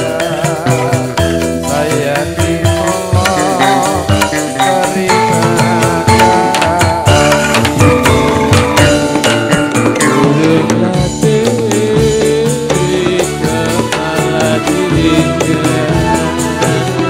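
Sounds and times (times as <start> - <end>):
wavering melody line: 0.0 - 15.1
frame drums beating: 0.0 - 17.0
jingling percussion: 0.0 - 17.0.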